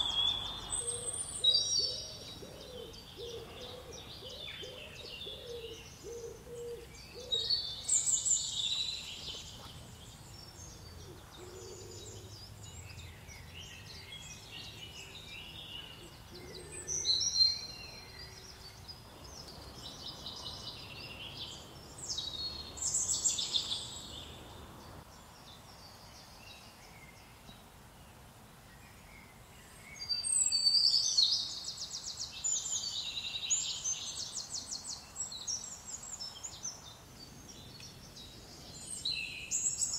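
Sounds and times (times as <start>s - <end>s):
faint outdoor hiss: 0.0s - 39.9s
songbirds singing: 0.0s - 39.9s.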